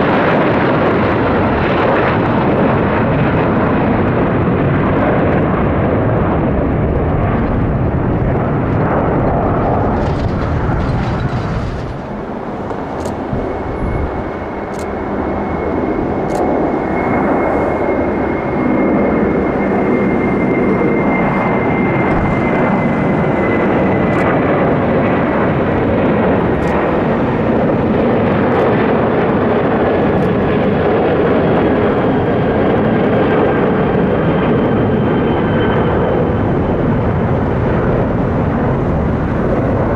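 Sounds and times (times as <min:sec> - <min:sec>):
jet airliner passing: 0:00.0 - 0:39.9.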